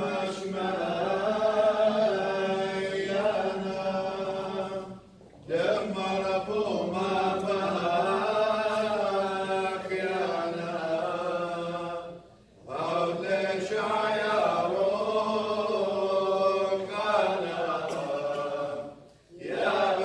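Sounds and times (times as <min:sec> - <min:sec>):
choir chanting a hymn: 0:00.0 - 0:20.0.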